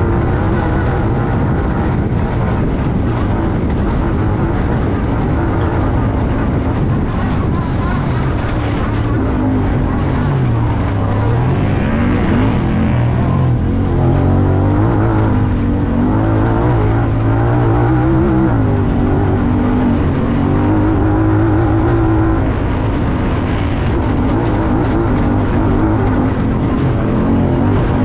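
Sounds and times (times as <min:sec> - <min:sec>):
engine running hard: 0:00.0 - 0:28.0
wind and dirt rush: 0:00.0 - 0:28.0.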